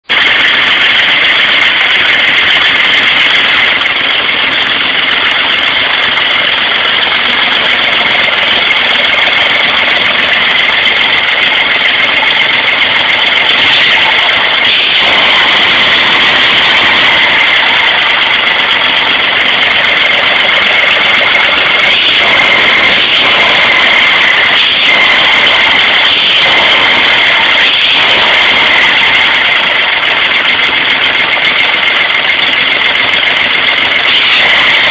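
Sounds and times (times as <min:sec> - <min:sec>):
engine running steadily: 0:00.0 - 0:34.9.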